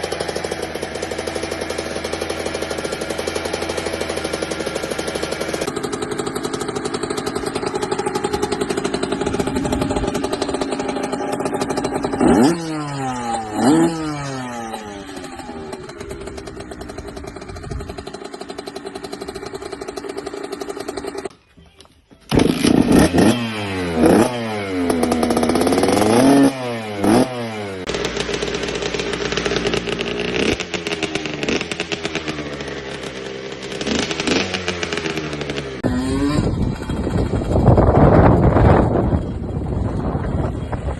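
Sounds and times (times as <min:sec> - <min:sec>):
dirt bike engine idling and revving: 0:00.0 - 0:40.9.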